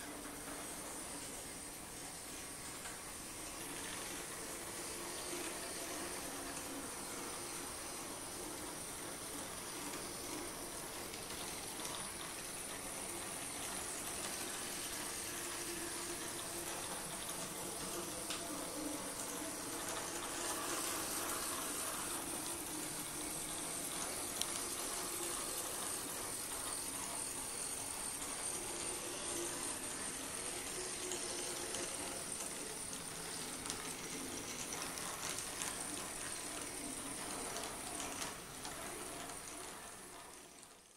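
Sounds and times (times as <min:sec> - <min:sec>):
model train motor whirring: 0:00.0 - 0:40.9
wheels clicking on rails: 0:00.0 - 0:40.9.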